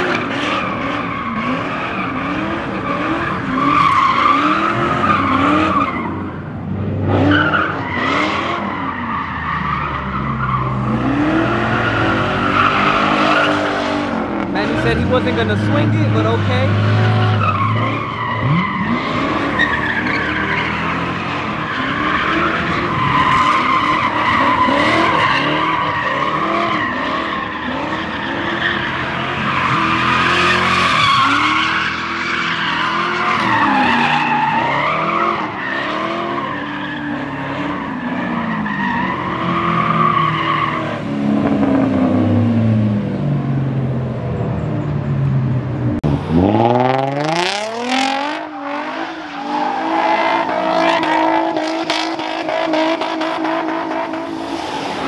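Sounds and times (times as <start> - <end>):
tires squealing: 0.0 - 43.6, 46.1 - 55.0
car engine revving: 0.0 - 55.0.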